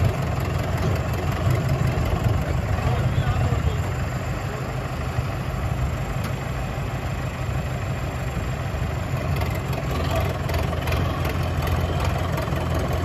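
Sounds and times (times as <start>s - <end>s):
tractor diesel engines running: 0.0s - 13.0s.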